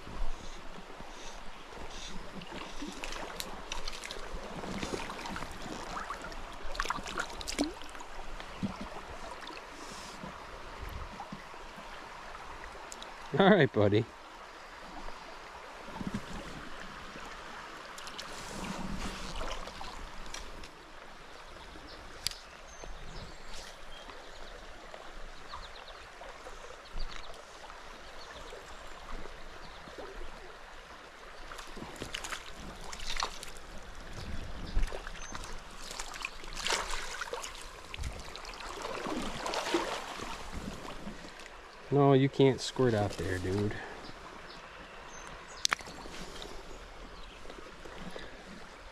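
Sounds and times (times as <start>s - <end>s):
water splashing and sloshing: 0.0s - 13.4s, 14.1s - 48.9s
creek water running: 0.0s - 48.9s.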